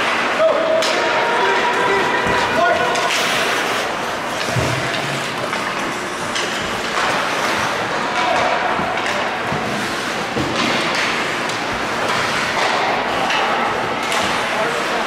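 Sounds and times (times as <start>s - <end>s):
spectators' voices in a hall: 0.0s - 15.0s.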